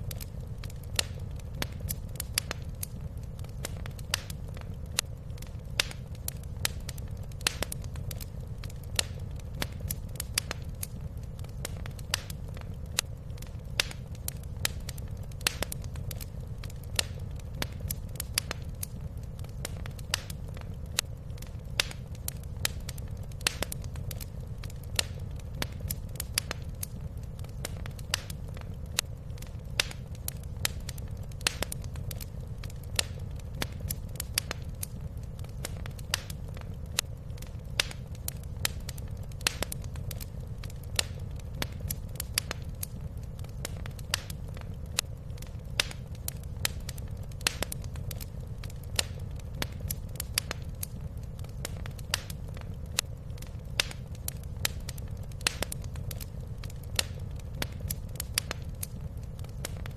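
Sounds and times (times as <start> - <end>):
wood fire crackling in fireplace: 0.0 - 59.9.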